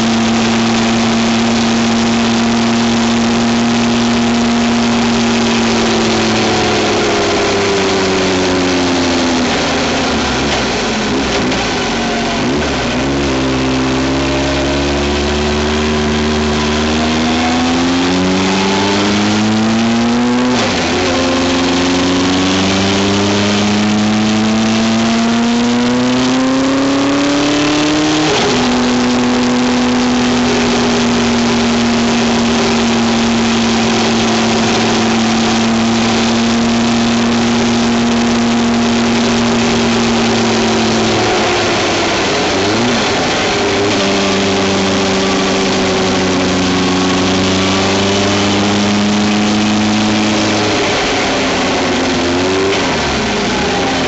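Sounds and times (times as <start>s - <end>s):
vehicle engine revving: 0.0s - 54.0s
wind and road noise: 0.0s - 54.0s.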